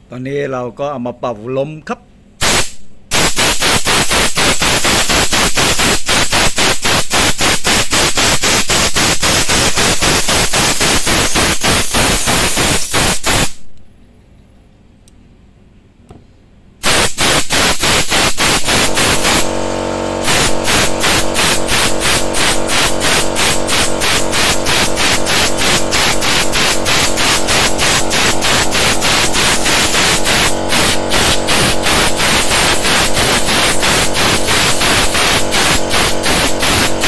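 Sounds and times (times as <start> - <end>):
compressed air gun hissing: 2.4 - 13.6, 16.8 - 19.5, 20.2 - 37.0.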